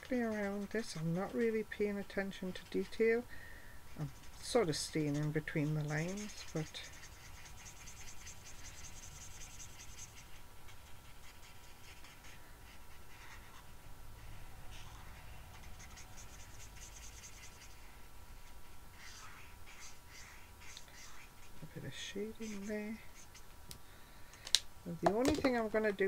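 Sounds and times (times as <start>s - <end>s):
marker nib scratching on cardstock: 0.0s - 3.2s, 3.9s - 23.5s.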